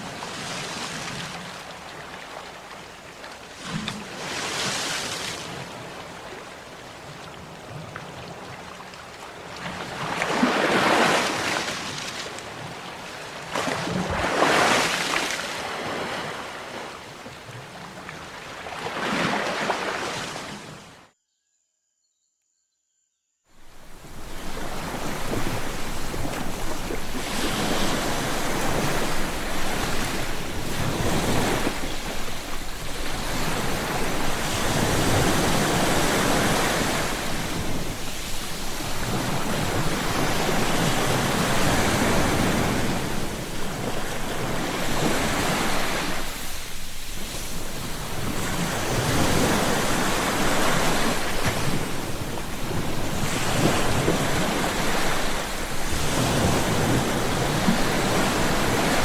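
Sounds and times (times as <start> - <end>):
sea waves breaking on shore: 0.0 - 21.1, 23.6 - 59.0.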